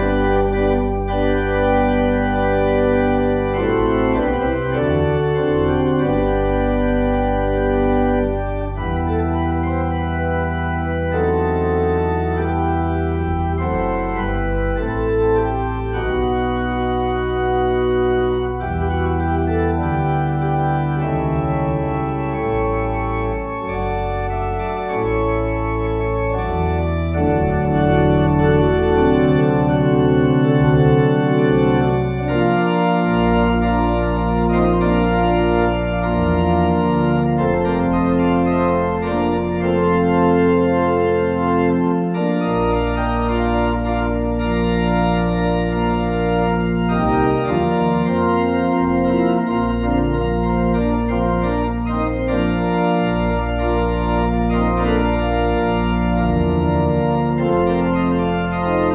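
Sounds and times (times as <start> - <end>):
organ playing sustained chords: 0.0 - 58.9.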